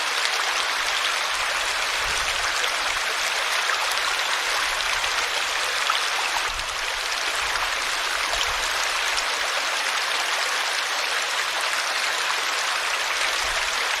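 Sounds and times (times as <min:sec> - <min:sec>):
river water flowing over rocks: 0:00.0 - 0:14.0.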